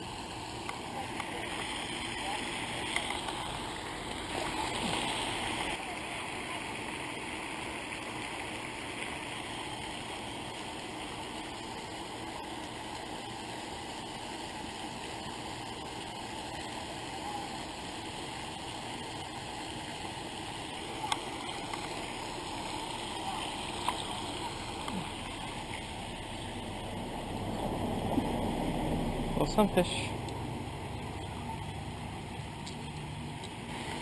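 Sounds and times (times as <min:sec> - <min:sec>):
fountain spray splashing: 0:00.0 - 0:34.0.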